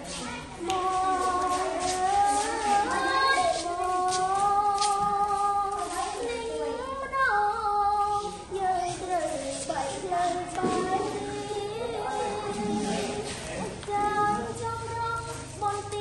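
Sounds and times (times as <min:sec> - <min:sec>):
girl singing unaccompanied: 0:00.0 - 0:16.0.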